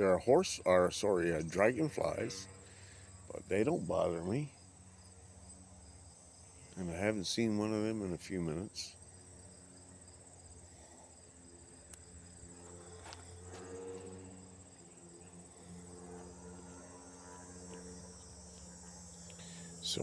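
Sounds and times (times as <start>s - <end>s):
crickets chirping: 0.0s - 20.0s
faint low hum: 0.0s - 20.0s.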